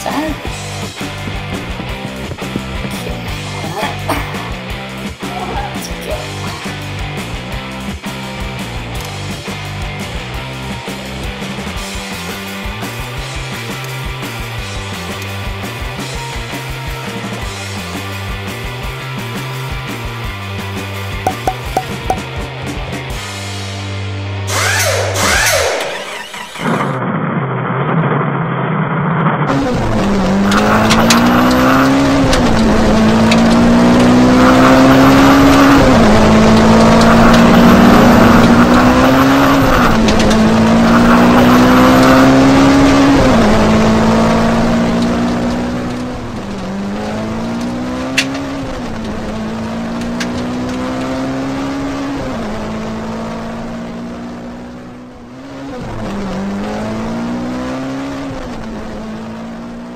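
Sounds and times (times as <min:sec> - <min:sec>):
off-road truck engine accelerating: 0:00.0 - 0:59.9.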